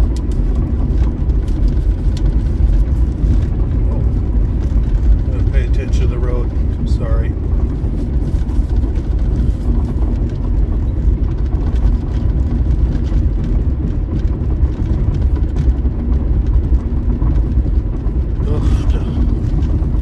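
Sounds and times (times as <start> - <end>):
car driving on road: 0.0 - 20.0.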